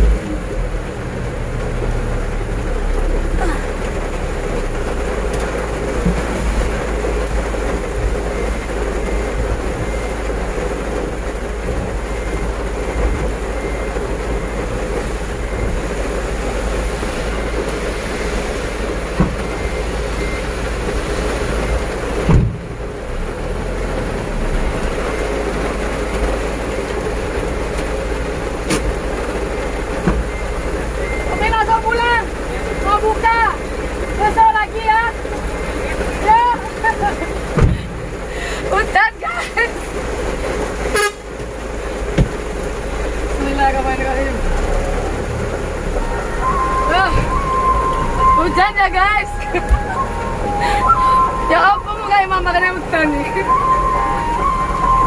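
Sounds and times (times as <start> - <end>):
diesel truck engine humming: 0.0 - 55.0.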